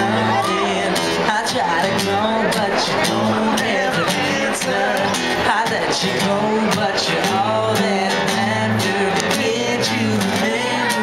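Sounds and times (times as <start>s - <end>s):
man singing: 0.0s - 11.0s
strummed acoustic guitars: 0.0s - 11.0s.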